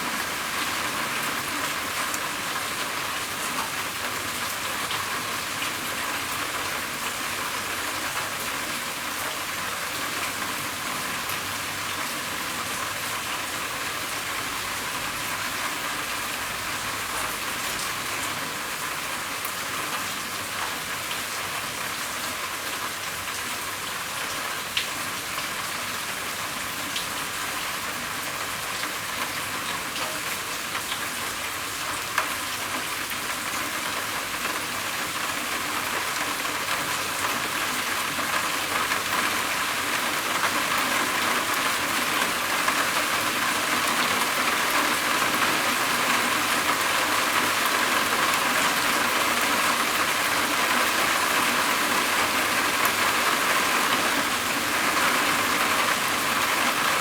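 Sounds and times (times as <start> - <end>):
rain drumming on a roof: 0.0 - 57.0.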